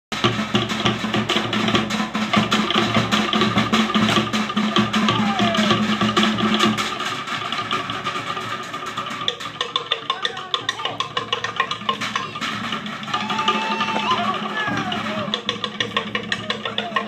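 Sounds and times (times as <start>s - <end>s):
deep drums: 0.1s - 17.0s
wooden slit drums: 0.1s - 17.0s.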